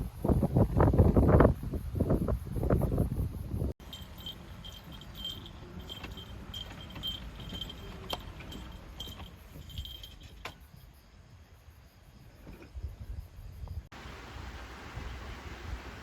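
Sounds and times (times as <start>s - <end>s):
wind rumble: 0.0s - 16.0s.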